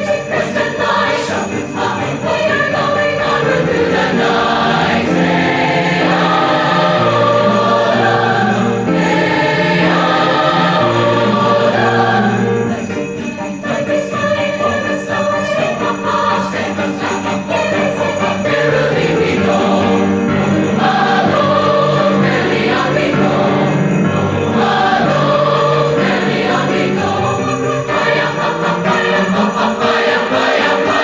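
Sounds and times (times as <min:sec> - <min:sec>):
choir singing: 0:00.0 - 0:31.0
sleigh bells jingling: 0:00.0 - 0:31.0.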